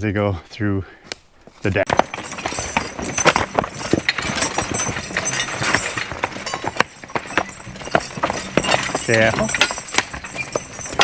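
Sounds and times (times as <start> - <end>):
hooves clopping on rocky ground: 1.2 - 11.0
wooden knocks from cart: 1.7 - 11.0.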